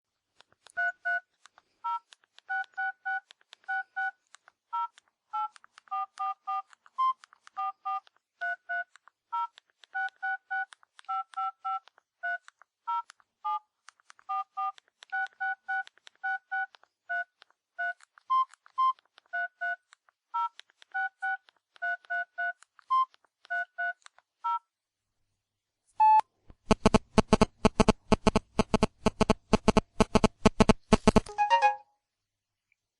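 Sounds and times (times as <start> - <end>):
phone keypad beeping: 0.7 - 13.6, 14.2 - 24.6, 26.0 - 31.8.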